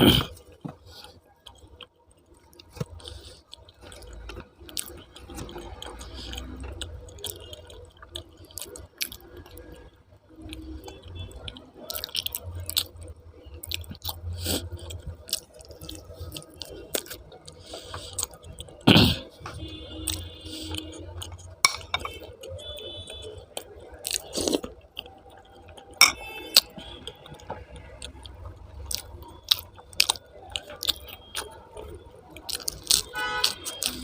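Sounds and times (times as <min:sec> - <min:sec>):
close chewing and mouth sounds: 0:00.0 - 0:34.0.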